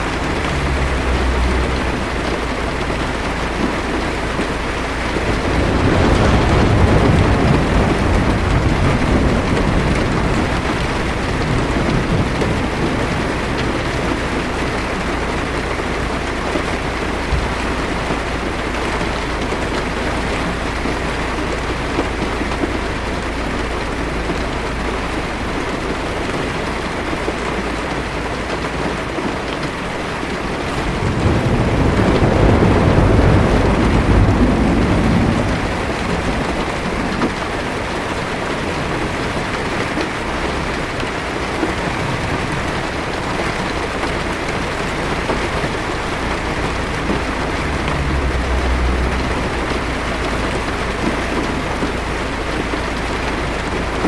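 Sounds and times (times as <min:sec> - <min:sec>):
thunder rumbling: 0:00.0 - 0:28.3, 0:29.0 - 0:54.0
heavy rain on car roof: 0:00.0 - 0:54.0.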